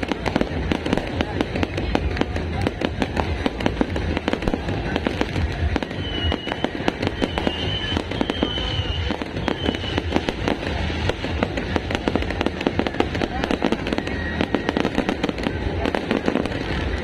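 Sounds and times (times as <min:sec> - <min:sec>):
fireworks crackling bangs: 0:00.0 - 0:17.0.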